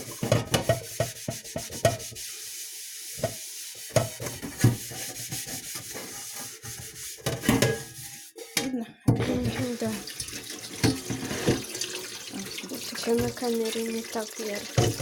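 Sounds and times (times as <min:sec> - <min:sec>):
scrubbing a metal saucepan: 0:00.0 - 0:15.0.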